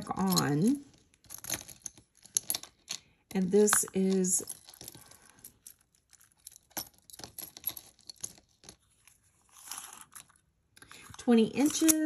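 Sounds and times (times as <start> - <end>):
jewelry clicking and clinking: 0.0 - 12.0.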